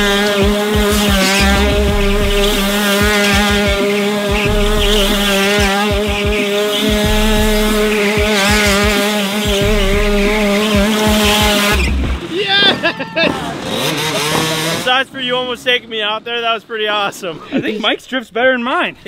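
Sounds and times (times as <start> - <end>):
kart engine at high revs: 0.0 - 15.4
tires squealing on concrete: 0.0 - 17.4.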